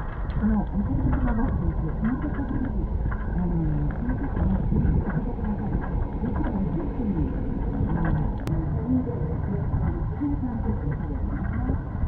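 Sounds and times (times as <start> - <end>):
bus engine rumble: 0.0 - 12.0
wind buffeting microphone: 0.0 - 12.0.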